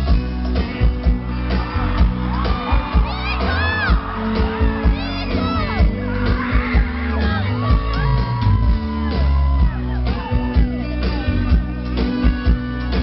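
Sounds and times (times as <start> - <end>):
bass: 0.0 - 13.0
drum beat: 0.0 - 13.0
guitar: 0.0 - 13.0.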